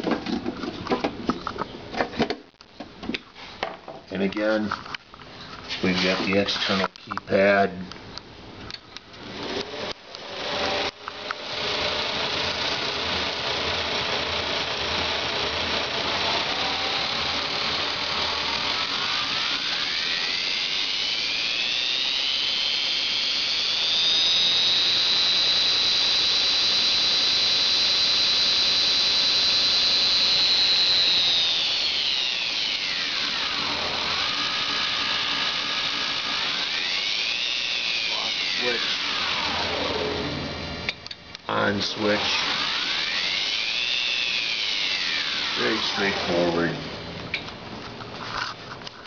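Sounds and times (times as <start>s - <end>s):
belt grinder whining: 9.2s - 49.0s.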